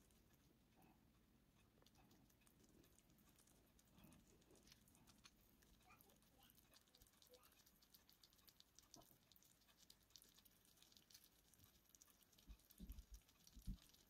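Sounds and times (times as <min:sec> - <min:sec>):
soft ticks of simmering pot: 0:00.0 - 0:14.0.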